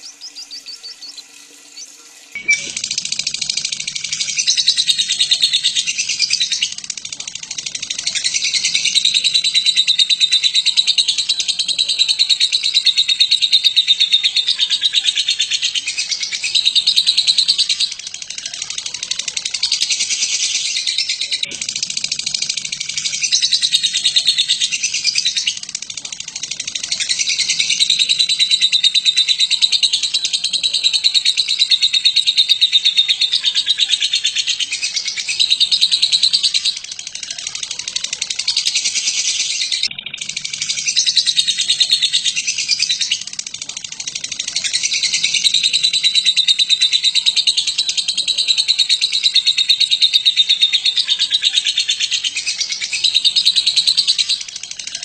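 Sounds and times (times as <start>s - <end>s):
lovebird chattering trill: 0.0s - 55.0s.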